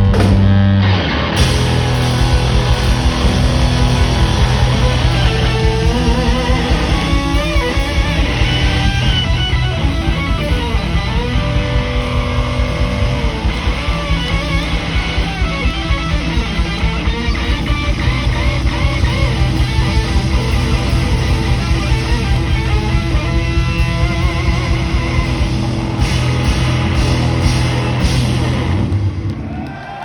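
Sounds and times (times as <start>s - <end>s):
electric guitar string bends: 0.0s - 29.5s
blues-rock band playing: 0.0s - 29.7s.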